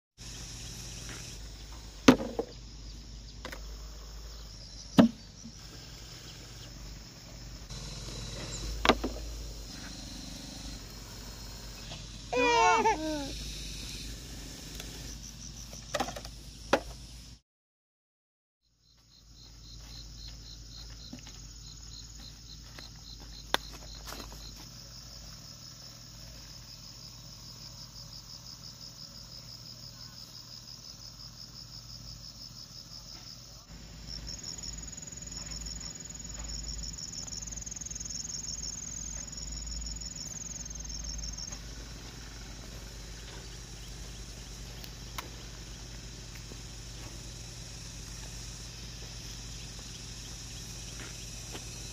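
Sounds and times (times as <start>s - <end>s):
high-pitched insect chirping: 0.2s - 17.2s, 18.8s - 51.9s
insects chirping: 0.2s - 17.4s, 18.6s - 51.9s.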